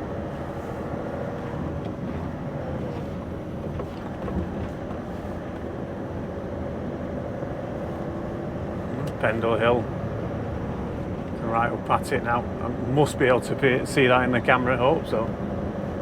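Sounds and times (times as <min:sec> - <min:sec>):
diesel lorry engine running: 0:00.0 - 0:16.0
road noise: 0:00.0 - 0:16.0.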